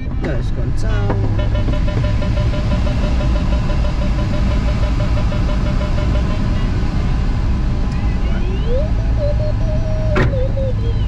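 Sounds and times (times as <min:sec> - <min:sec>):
airflow rushing around cockpit: 0:00.0 - 0:11.0
variometer beeping rapidly: 0:00.9 - 0:11.0.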